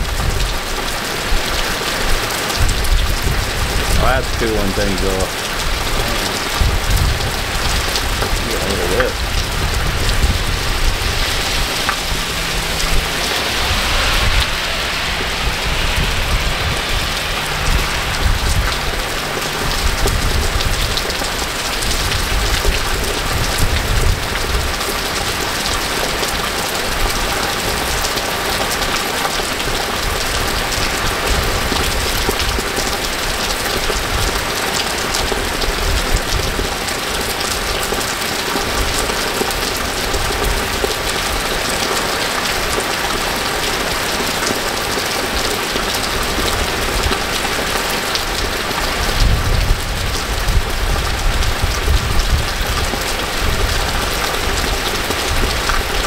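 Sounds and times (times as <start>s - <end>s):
rain falling on wet street: 0.0s - 56.0s.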